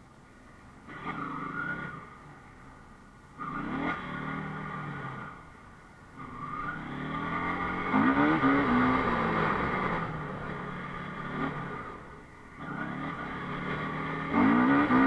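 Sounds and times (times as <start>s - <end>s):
motorcycle engine revving: 0.8s - 2.2s, 3.4s - 5.6s, 6.2s - 15.0s.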